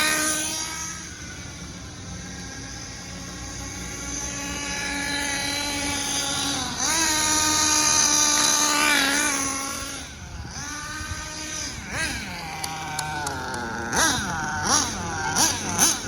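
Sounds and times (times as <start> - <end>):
engine throttle blips: 0.0 - 16.0
small nitro engine revving: 0.0 - 16.0.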